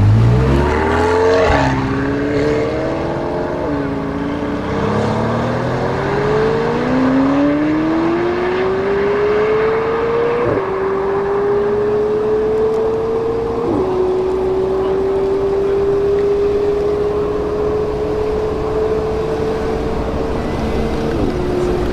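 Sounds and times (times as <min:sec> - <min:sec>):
sports car accelerating through gears: 0:00.0 - 0:21.9.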